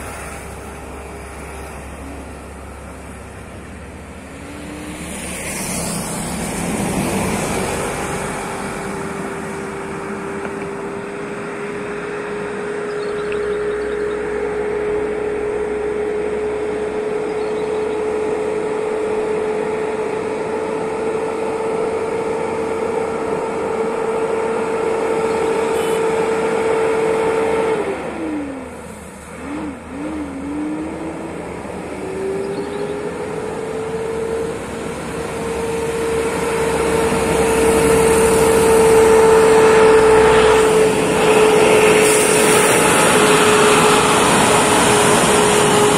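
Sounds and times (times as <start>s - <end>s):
truck diesel engine labouring: 0.0s - 45.9s.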